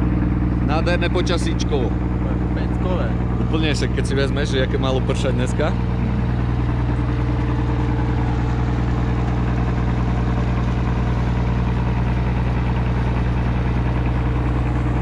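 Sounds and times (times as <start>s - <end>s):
motorboat engine droning: 0.0s - 15.0s
wind: 0.0s - 15.0s.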